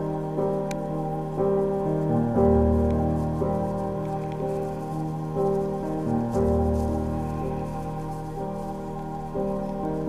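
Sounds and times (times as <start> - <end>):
calm instrumental music: 0.0 - 10.0.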